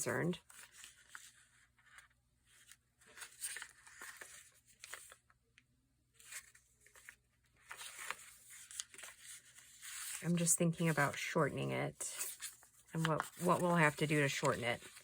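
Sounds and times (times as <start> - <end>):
paper rustling and crinkling: 0.1 - 5.4, 6.2 - 15.0.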